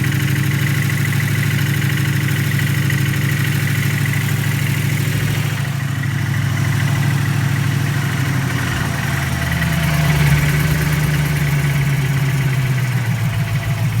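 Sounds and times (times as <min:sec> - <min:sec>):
engine idling with knocking: 0:00.0 - 0:14.0.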